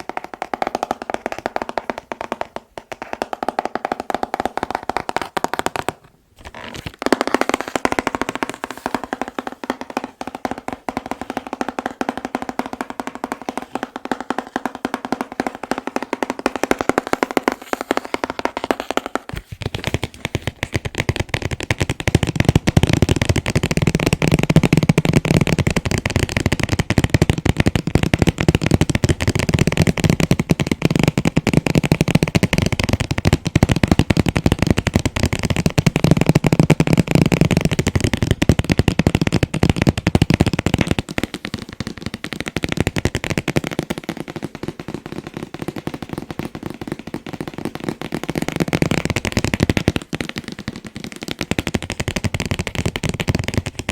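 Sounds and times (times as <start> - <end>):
rapid tapping on packaging box: 0.0 - 53.9.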